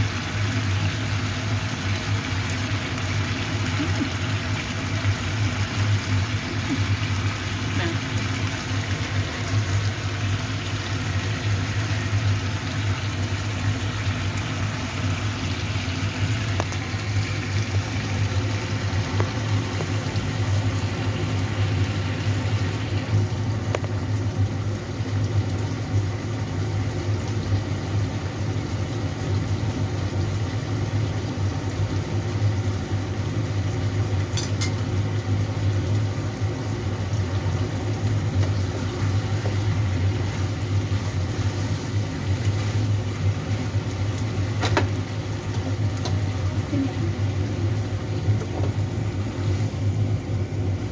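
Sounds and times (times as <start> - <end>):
food sizzling in a pan: 0.0 - 50.9
low mechanical hum: 0.0 - 50.9.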